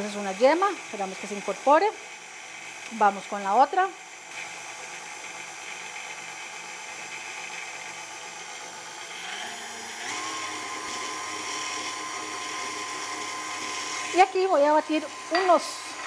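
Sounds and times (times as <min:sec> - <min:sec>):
stand mixer motor humming: 0:00.0 - 0:16.0.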